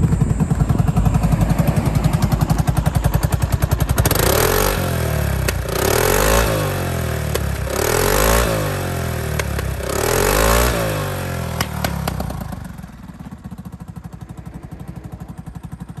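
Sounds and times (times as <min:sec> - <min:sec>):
scooter engine revving and idling: 0:00.0 - 0:16.0.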